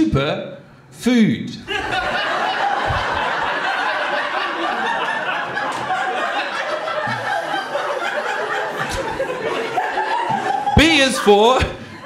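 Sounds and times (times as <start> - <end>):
audience laughing: 1.7 - 12.0.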